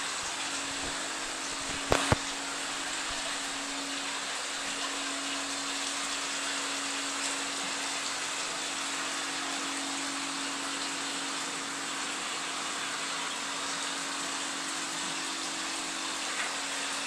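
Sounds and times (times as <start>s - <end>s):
circulating water and pumps: 0.0s - 17.0s.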